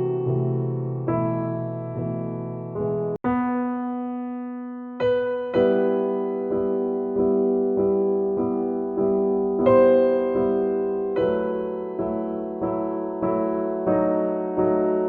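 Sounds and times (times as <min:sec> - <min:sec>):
soft electric piano music: 0:00.0 - 0:15.0.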